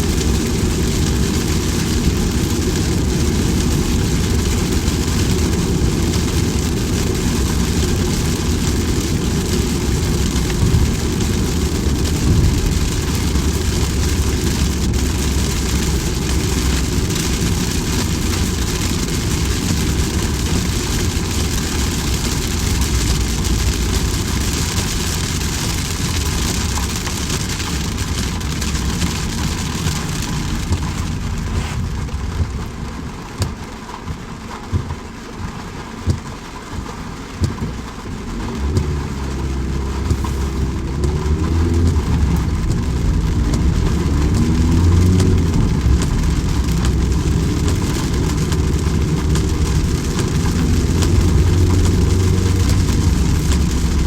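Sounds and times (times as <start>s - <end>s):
deep rumble: 0.0s - 33.7s, 37.4s - 54.0s
rain falling: 0.0s - 54.0s.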